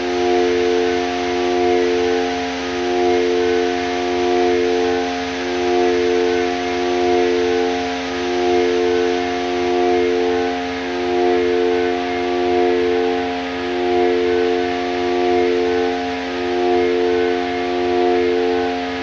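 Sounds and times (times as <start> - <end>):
fast low synth pulse: 0.0 - 19.0
synthesizer drone chord: 0.0 - 19.0.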